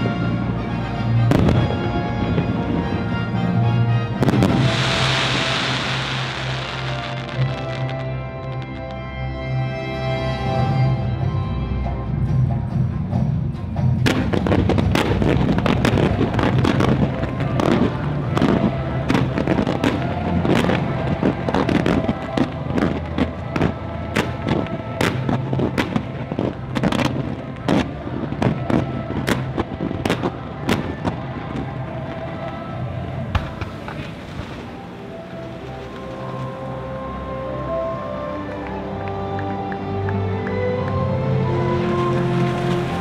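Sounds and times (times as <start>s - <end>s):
orchestral music over loudspeakers: 0.0s - 43.0s.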